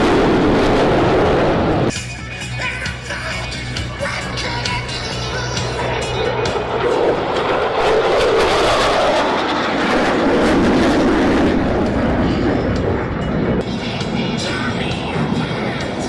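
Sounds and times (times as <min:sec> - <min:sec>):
jet roar of low pass: 0:00.0 - 0:01.9, 0:04.3 - 0:16.0.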